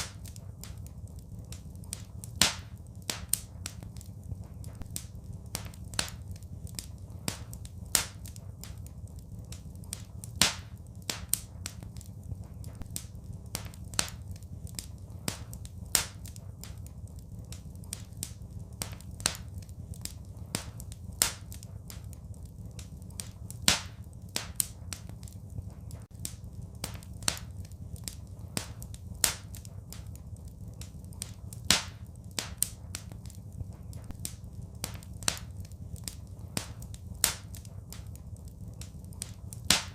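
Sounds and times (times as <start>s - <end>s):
wood fire crackling: 0.0s - 39.9s
low rumble: 0.4s - 39.6s.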